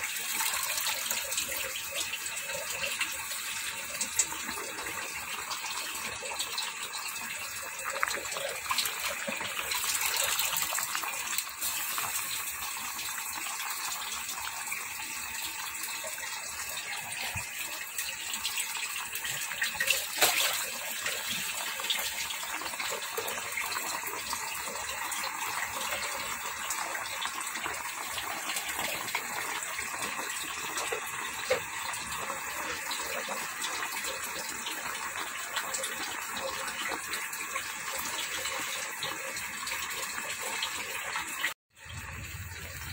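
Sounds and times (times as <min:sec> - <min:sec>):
stew simmering and crackling: 0:00.0 - 0:41.2.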